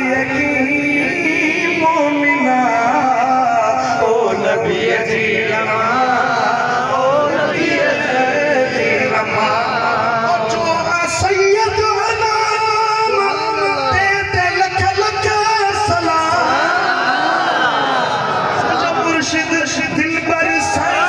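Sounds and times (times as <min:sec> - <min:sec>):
man chanting through loudspeakers: 0:00.0 - 0:16.8, 0:18.7 - 0:21.0.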